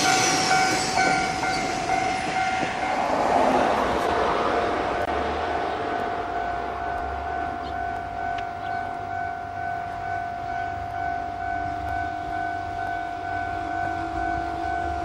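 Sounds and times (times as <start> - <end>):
electric train high whine: 0.0 - 15.0.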